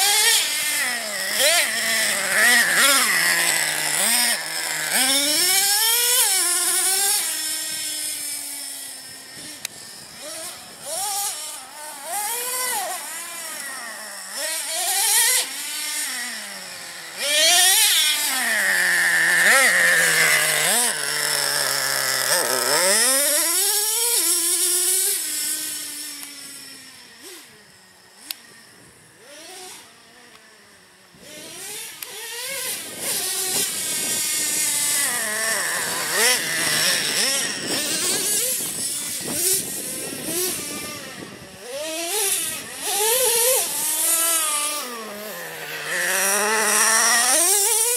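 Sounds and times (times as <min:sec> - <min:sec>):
radio-controlled car motors revving: 0:00.0 - 0:47.9.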